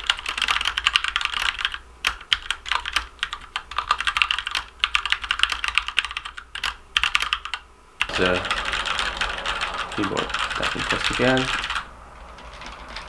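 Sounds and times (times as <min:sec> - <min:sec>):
fast mechanical keyboard typing: 0:00.0 - 0:13.0.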